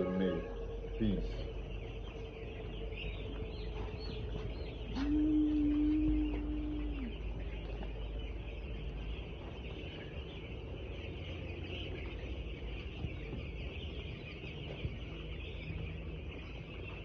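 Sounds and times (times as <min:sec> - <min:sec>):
chicks cheeping: 0:00.0 - 0:17.0
low rumble: 0:00.0 - 0:17.0.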